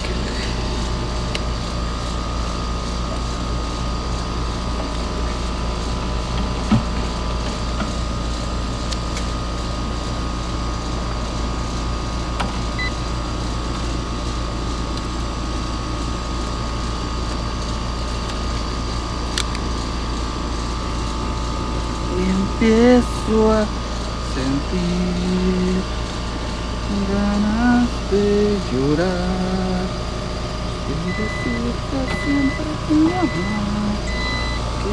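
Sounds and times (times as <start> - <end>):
machinery hum with whine: 0.0 - 34.9.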